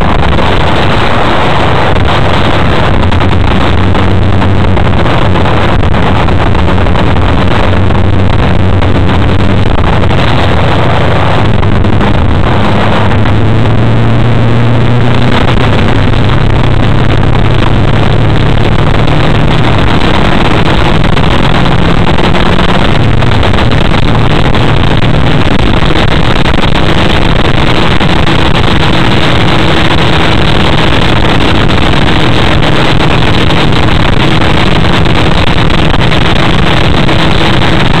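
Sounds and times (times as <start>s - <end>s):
deep drone: 0.0s - 38.0s
vehicle engine noise: 0.0s - 38.0s
wind rush: 0.0s - 38.0s.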